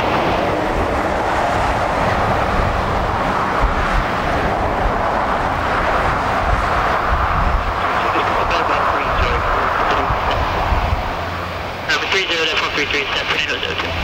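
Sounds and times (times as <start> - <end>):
road traffic: 0.0 - 14.0
turboprop engines running: 0.0 - 14.0.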